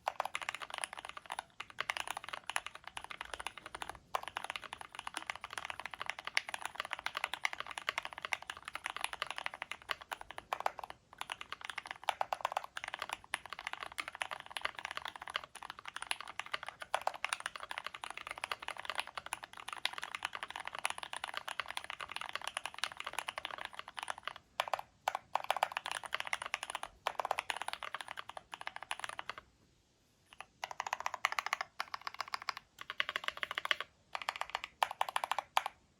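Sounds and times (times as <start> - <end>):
fast typing on mechanical keyboard: 0.0 - 29.4, 30.3 - 35.8.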